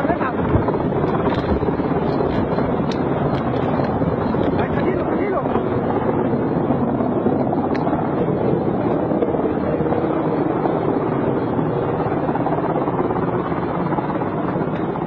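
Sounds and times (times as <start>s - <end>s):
helicopter rotor and engine noise: 0.0s - 15.0s.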